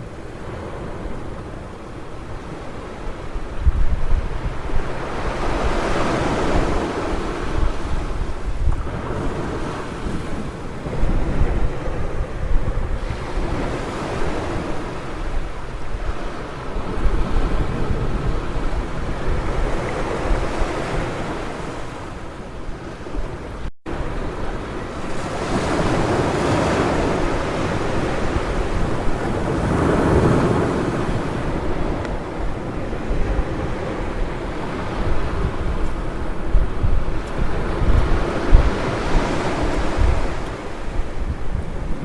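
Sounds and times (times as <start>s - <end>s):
ocean surf washing onto beach: 0.0s - 42.0s
wind buffeting microphone: 0.0s - 42.0s.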